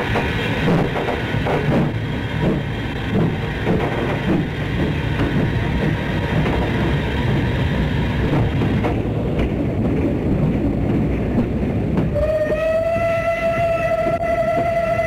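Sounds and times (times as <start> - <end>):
steam locomotive rumble: 0.0 - 15.0.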